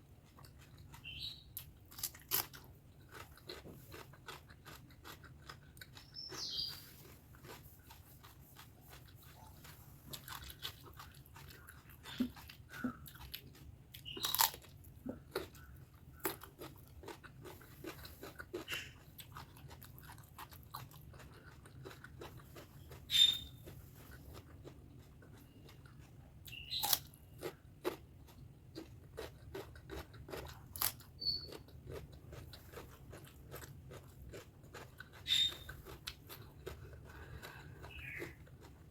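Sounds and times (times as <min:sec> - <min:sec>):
close chewing clicks and smacks: 0:00.1 - 0:38.9.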